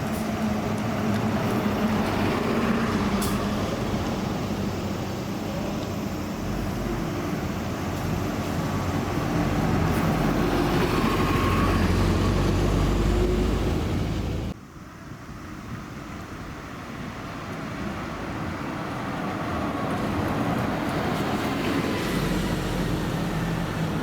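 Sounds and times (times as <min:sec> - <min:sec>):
diesel bus engines running: 0:00.0 - 0:24.0
traffic noise: 0:00.0 - 0:24.0.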